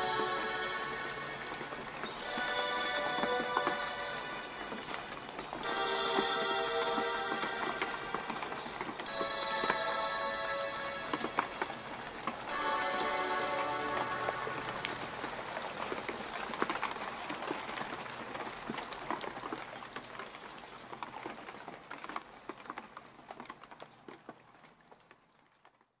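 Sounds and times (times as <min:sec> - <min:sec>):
steady rain hiss: 0:00.0 - 0:25.6
raindrops pattering: 0:00.0 - 0:26.0.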